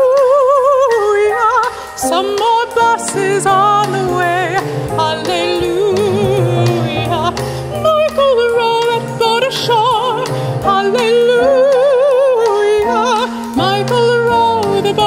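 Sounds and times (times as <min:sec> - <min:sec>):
drums: 0:00.0 - 0:15.0
piano: 0:00.0 - 0:15.0
soprano voice singing: 0:00.0 - 0:15.0.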